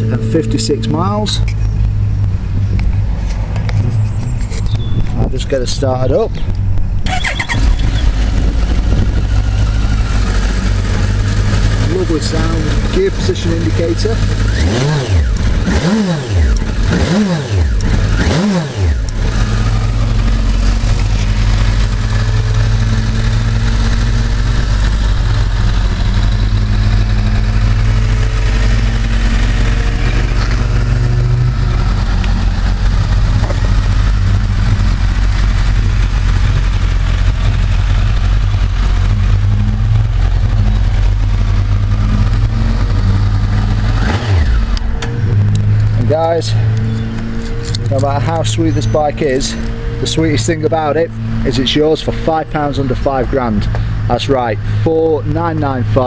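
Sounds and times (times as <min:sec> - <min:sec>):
motorcycle engine idling: 0:07.1 - 0:56.0.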